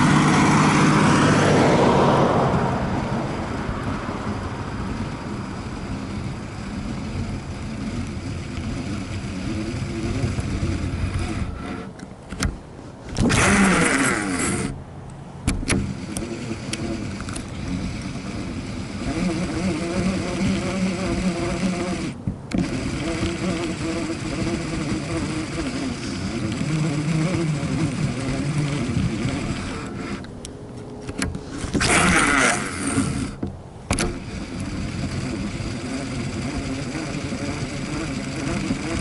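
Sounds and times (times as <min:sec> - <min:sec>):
fishing reel gears whirring: 0:00.0 - 0:14.8, 0:15.4 - 0:30.4, 0:31.1 - 0:39.0
hissing whir of reel: 0:00.0 - 0:39.0.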